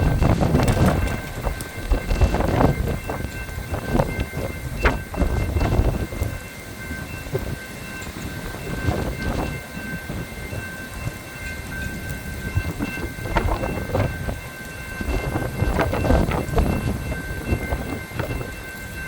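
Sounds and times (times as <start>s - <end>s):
strong wind gusting on microphone: 0.0s - 19.0s.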